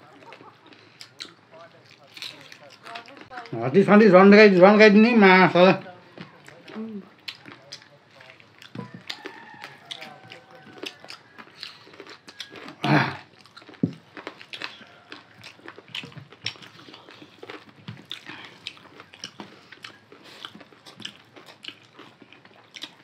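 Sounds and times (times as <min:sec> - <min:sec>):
wet chewing and lip smacking: 0:00.0 - 0:03.6, 0:05.8 - 0:23.0.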